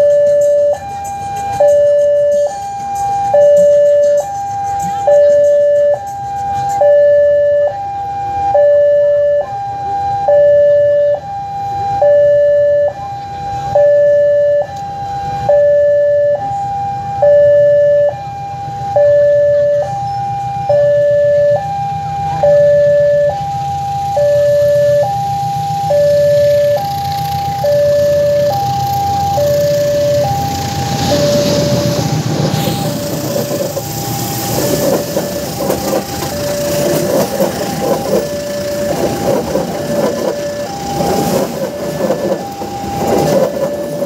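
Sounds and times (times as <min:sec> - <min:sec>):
diesel locomotive rumble: 0:00.0 - 0:44.0
two-tone level crossing alarm: 0:00.0 - 0:44.0.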